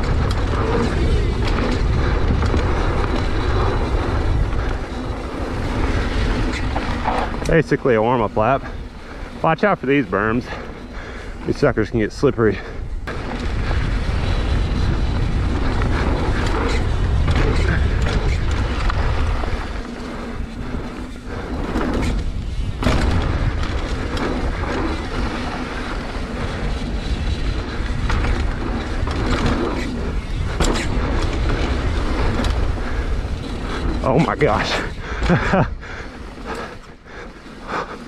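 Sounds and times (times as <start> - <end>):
wind buffeting microphone: 0.0 - 37.3
bike clattering over bumps: 0.0 - 38.0
tyres rolling over dirt: 0.0 - 38.0.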